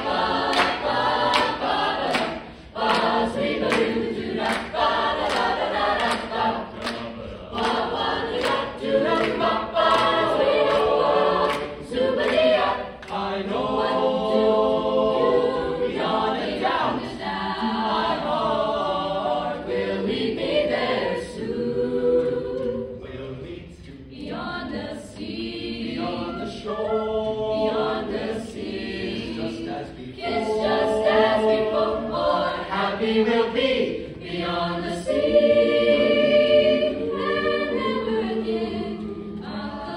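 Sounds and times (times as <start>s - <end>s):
choir singing in harmony: 0.0s - 39.9s
singers clapping: 0.0s - 39.9s.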